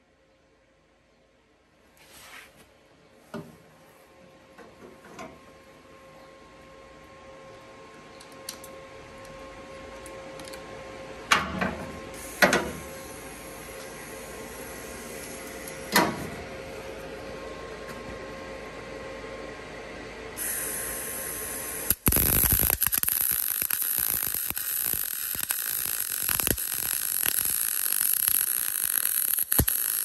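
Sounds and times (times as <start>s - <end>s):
steady hum: 2.9s - 30.0s.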